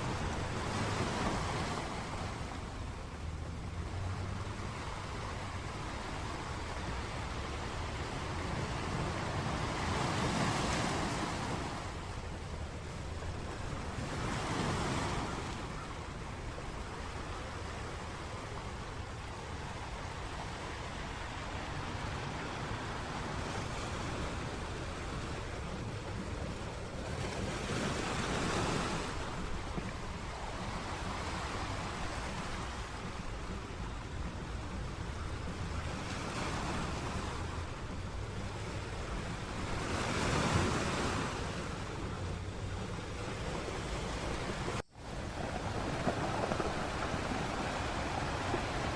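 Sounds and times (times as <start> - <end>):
sea waves breaking on shore: 0.0 - 48.9
wind rumble on microphone: 0.0 - 48.9.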